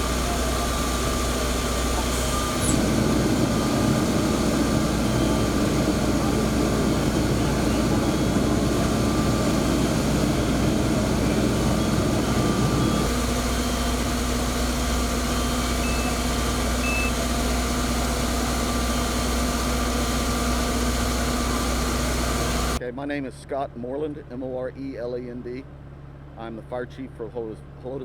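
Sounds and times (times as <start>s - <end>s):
diesel engine idling: 0.0s - 22.8s
heavy low rumble: 0.0s - 22.8s.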